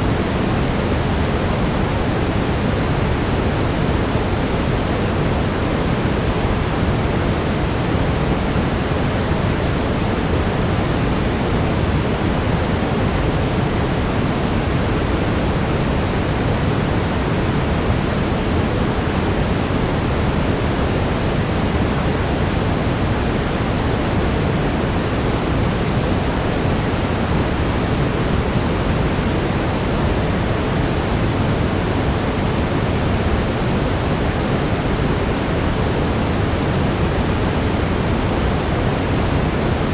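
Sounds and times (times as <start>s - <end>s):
steady brown noise: 0.0s - 39.9s.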